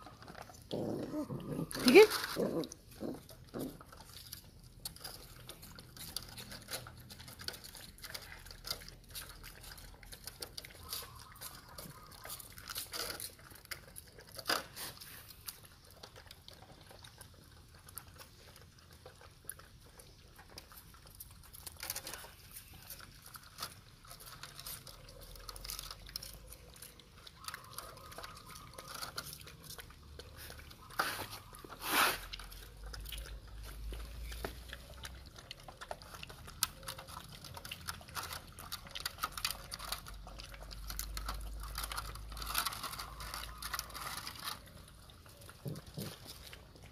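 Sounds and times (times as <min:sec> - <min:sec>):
puppies licking and lapping: 0:00.0 - 0:46.9.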